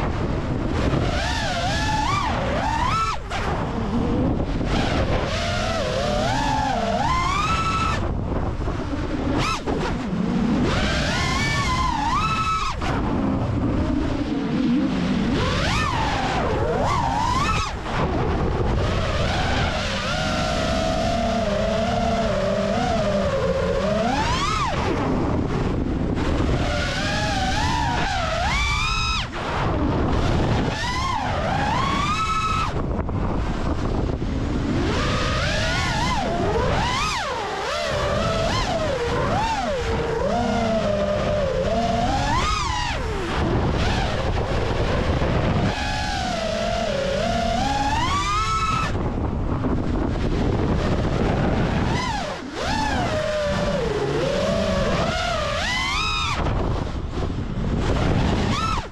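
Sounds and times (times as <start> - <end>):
drone motors whining: 0.0 - 58.9
rushing wind noise: 0.0 - 58.9.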